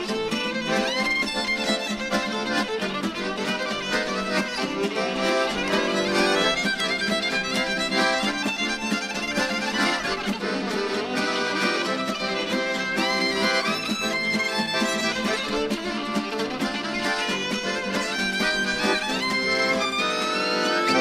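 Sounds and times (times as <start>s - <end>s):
fiddle-led music: 0.0s - 21.0s.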